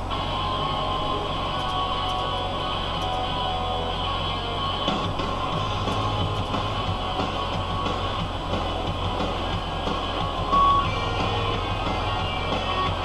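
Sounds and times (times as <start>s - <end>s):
background music: 0.0s - 13.0s
tractor diesel engine droning: 0.0s - 13.0s.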